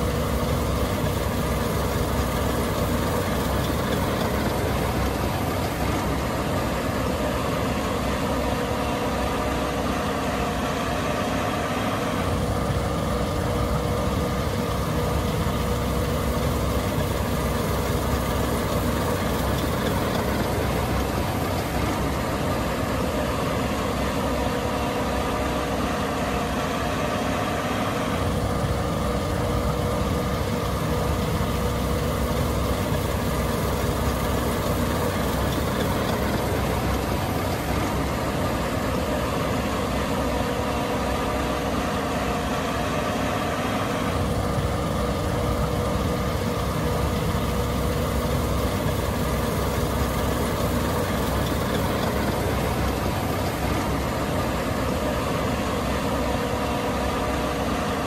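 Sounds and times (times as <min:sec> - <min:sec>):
combine engine drone with whine: 0:00.0 - 0:58.0.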